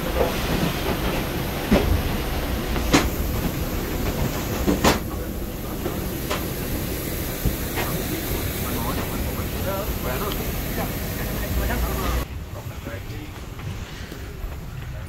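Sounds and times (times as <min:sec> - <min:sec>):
airliner low rumble and hiss: 0:00.0 - 0:15.0.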